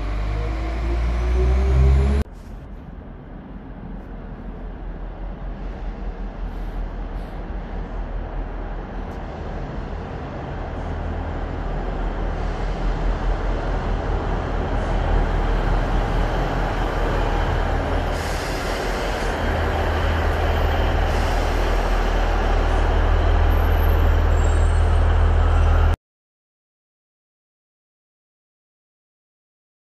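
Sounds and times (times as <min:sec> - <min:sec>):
diesel train engine drone: 0:00.0 - 0:26.0.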